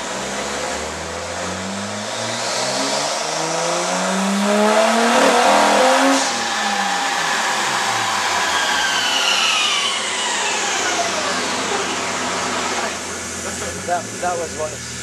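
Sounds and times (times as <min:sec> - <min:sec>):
car engine revving: 0:00.0 - 0:15.0
turbo whine: 0:00.0 - 0:15.0.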